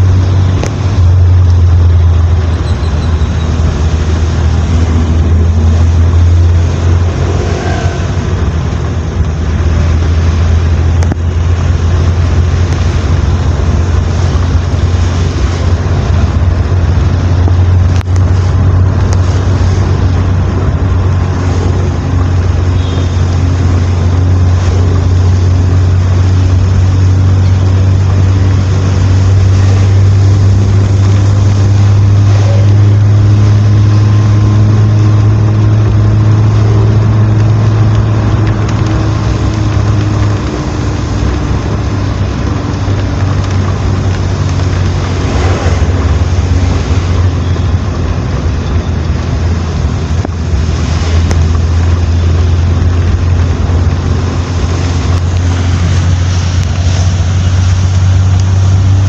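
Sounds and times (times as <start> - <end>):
road noise: 0.0 - 59.0
vehicle engine drone: 0.0 - 59.0.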